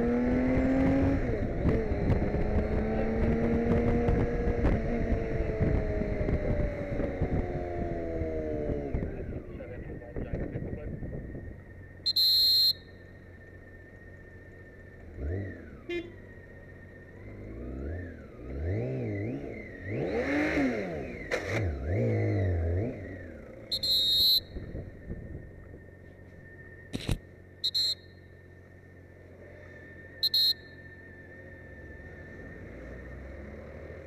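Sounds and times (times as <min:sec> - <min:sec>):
motorcycle engine revving: 0:00.0 - 0:10.5, 0:14.0 - 0:25.8, 0:28.8 - 0:34.0.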